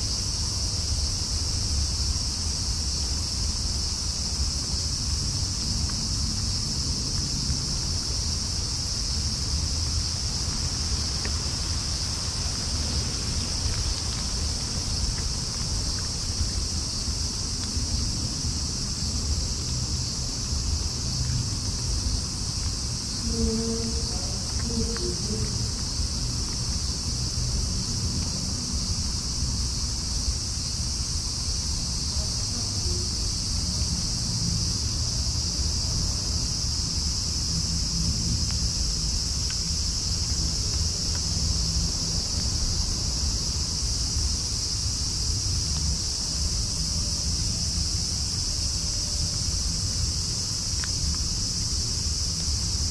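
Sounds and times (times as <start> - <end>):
night insects chirring: 0.0 - 52.9.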